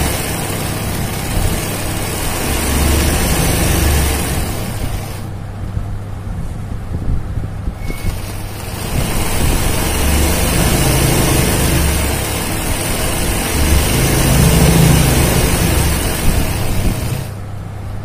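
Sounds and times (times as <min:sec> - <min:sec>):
sewing machine clattering: 0:00.0 - 0:05.3, 0:07.8 - 0:17.4.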